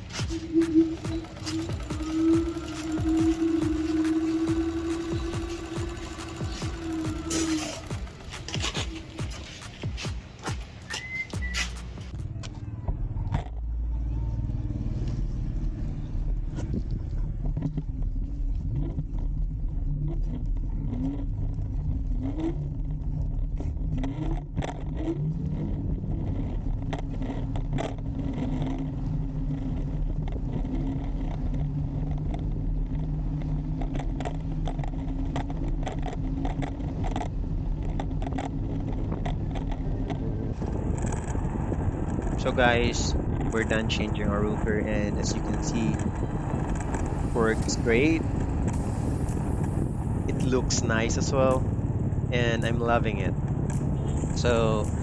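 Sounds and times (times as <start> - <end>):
electric scooter motor hum: 0.0 - 12.7, 14.4 - 55.0
rising motor whines: 0.0 - 55.0.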